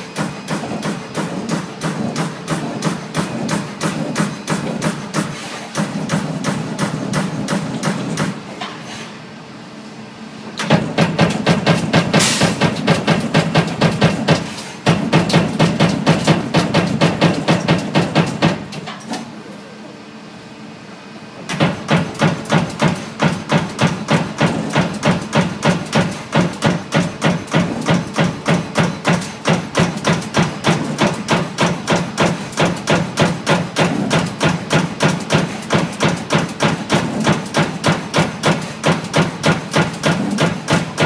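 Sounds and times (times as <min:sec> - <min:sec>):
punch press punching sheet metal: 0:00.0 - 0:08.5, 0:10.6 - 0:19.2, 0:21.5 - 0:41.0.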